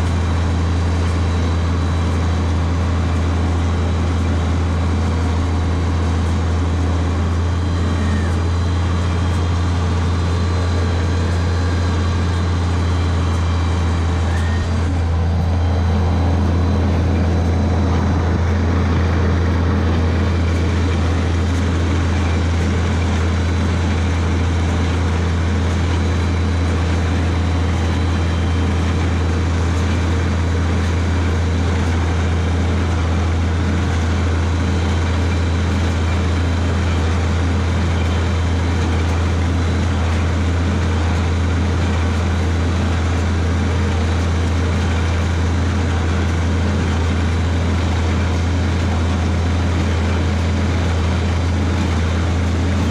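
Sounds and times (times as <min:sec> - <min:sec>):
hay baler working: 0:00.0 - 0:52.9
tractor engine under load: 0:00.0 - 0:52.9.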